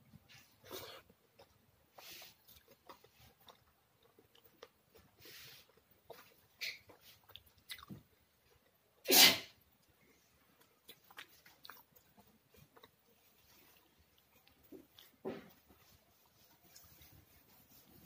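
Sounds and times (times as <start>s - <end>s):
quiet chewing: 0.1s - 9.0s, 9.6s - 18.0s
wet clicks of fingers mixing food: 0.3s - 8.8s, 9.6s - 17.8s.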